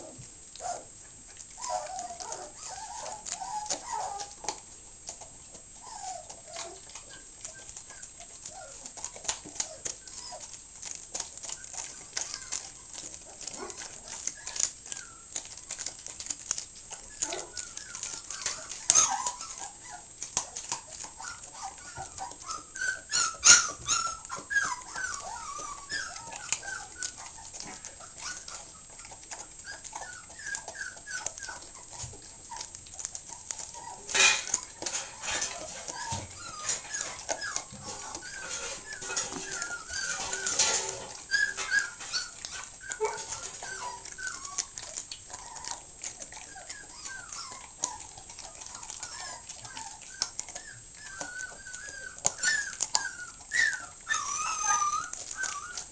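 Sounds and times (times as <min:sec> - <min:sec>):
dog chewing wetly on meat: 0:00.0 - 0:55.9
puppies whimpering: 0:00.0 - 0:55.9.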